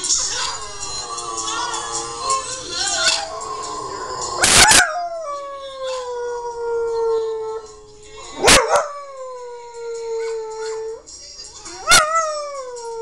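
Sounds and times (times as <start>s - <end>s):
music: 0.0s - 13.0s
dog howling: 0.6s - 11.0s, 11.8s - 13.0s.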